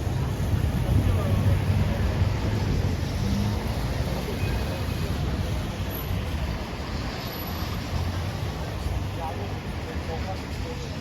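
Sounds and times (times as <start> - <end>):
faint voices of passers-by: 0.0 - 11.0
traffic rumble: 0.0 - 11.0.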